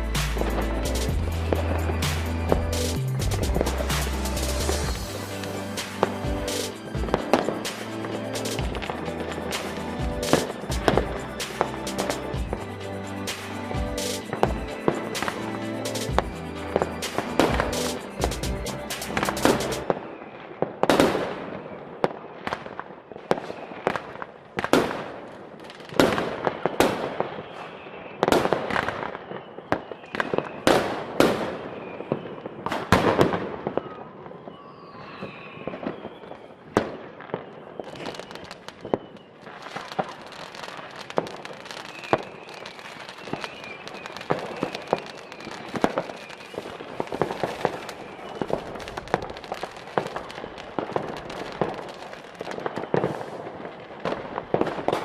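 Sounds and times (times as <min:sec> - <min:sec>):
fireworks banging: 0:00.0 - 0:29.2, 0:29.9 - 0:34.1, 0:35.1 - 0:55.0
fireworks popping and crackling: 0:00.0 - 0:55.0.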